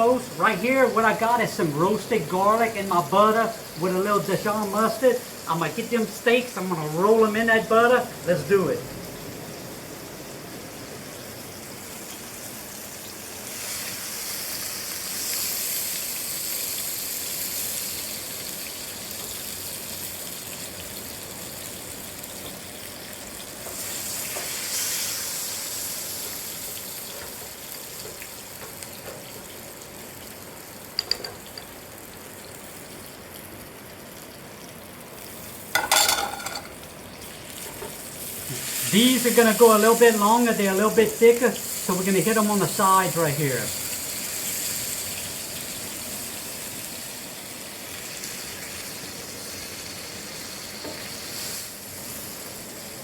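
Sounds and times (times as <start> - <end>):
steaks sizzling in a pan: 0.0 - 8.5, 9.1 - 53.0.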